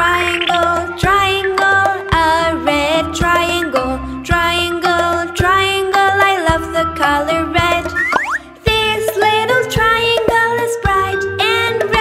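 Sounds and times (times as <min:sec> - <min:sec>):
children's background music: 0:00.0 - 0:12.0.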